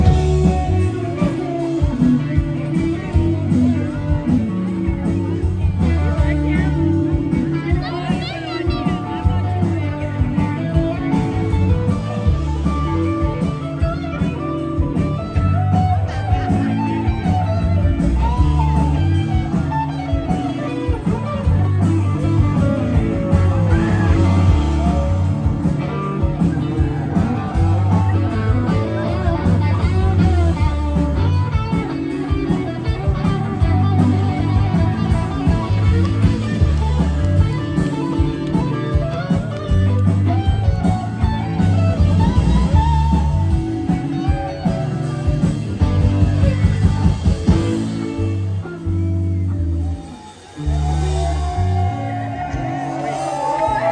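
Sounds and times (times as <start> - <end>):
blues-rock band playing: 0.0 - 53.9.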